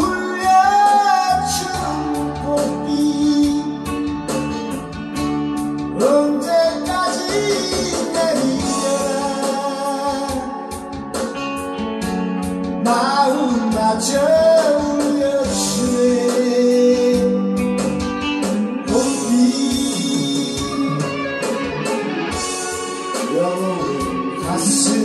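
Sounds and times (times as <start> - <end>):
man singing a ballad: 0.0 - 4.7, 5.8 - 11.4, 12.6 - 25.0
electric guitar accompaniment: 0.0 - 25.0.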